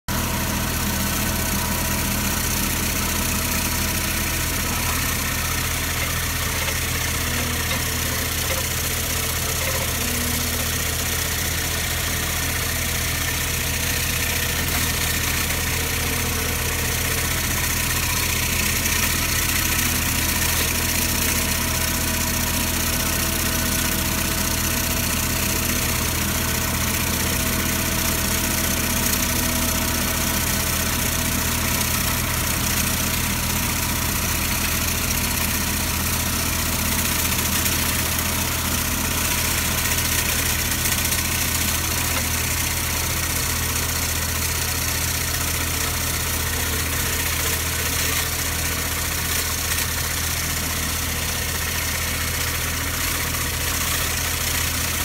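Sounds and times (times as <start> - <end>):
diesel engine running steadily: 0.1 - 55.0.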